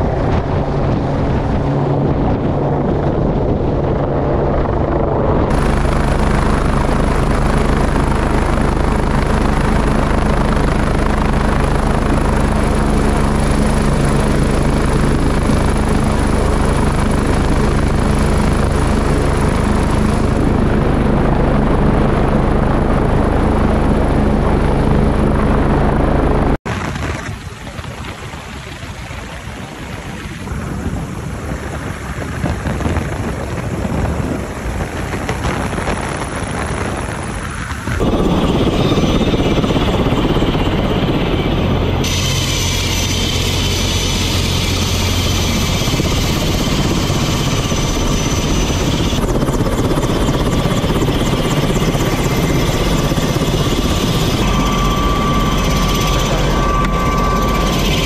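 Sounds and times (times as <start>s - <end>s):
helicopter hovering: 0.0s - 58.0s
high turbine whine: 0.0s - 58.0s
wind noise on microphone: 0.0s - 58.0s.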